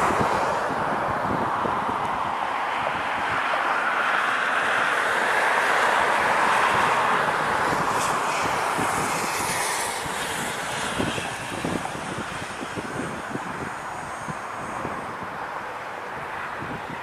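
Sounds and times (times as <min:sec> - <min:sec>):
turboprop engines roaring: 0:00.0 - 0:17.0.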